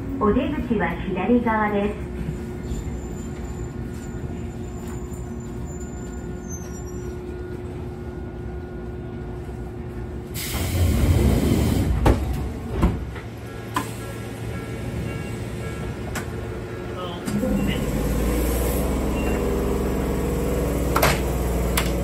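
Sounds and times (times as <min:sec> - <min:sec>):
train steady hum: 0:00.0 - 0:22.0.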